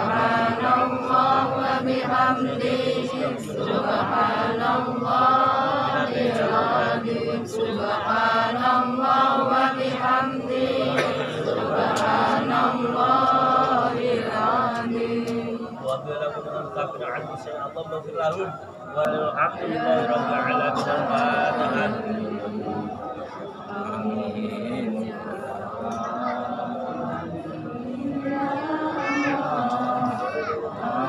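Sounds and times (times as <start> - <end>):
group chanting prayers: 0.0 - 31.0.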